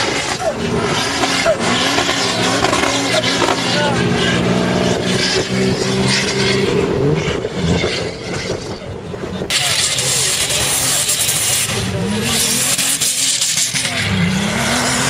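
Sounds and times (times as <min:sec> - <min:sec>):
off-road vehicle engine at high revs: 0:00.0 - 0:15.0.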